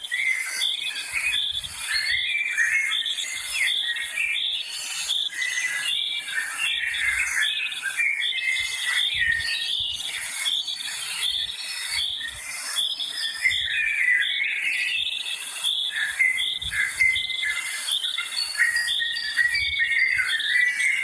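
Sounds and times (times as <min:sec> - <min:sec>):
birds singing: 0:00.0 - 0:21.0
whistled bird notes: 0:00.0 - 0:21.0.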